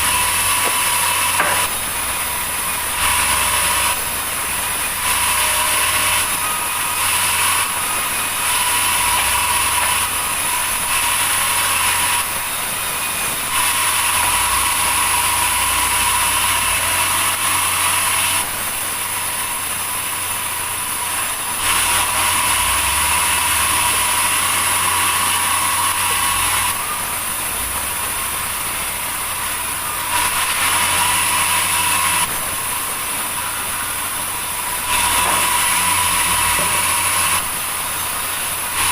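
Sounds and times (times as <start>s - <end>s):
sawmill machinery humming and whining: 0.0s - 38.9s.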